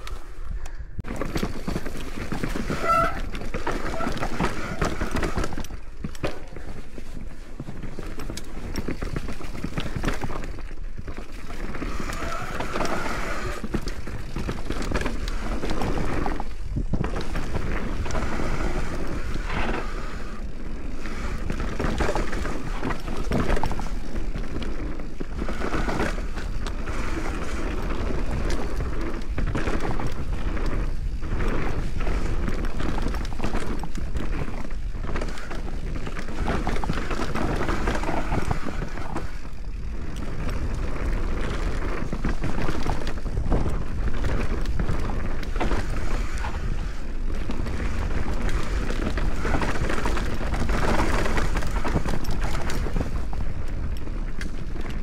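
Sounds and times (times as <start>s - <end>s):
bike tyres rolling over dirt: 0.0s - 55.0s
bike knocks and rattles: 1.0s - 55.0s.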